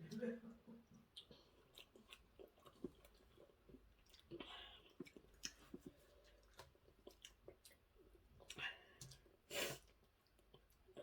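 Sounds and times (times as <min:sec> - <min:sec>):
person chewing soup: 0:01.0 - 0:11.0.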